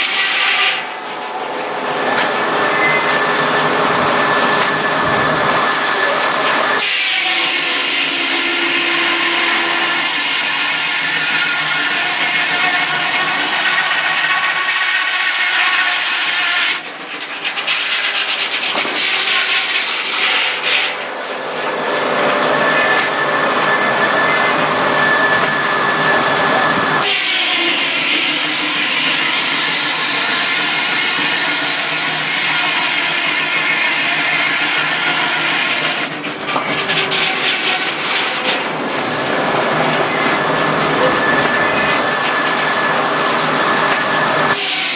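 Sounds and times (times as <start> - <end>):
sawmill sawing wood: 0.0 - 44.9.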